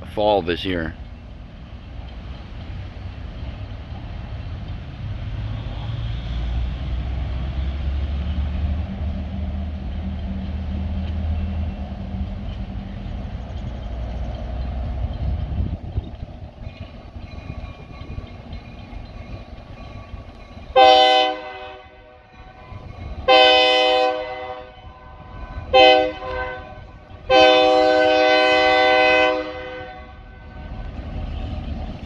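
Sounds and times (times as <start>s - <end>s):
diesel locomotive engine rumble: 0.0s - 32.0s.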